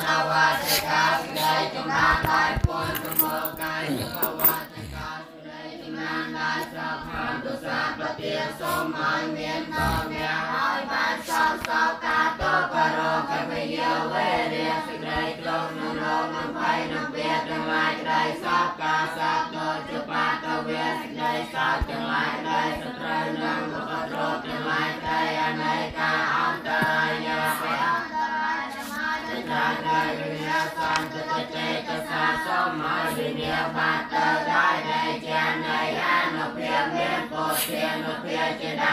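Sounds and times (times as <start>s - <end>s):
voices chanting in unison: 0.0s - 38.9s.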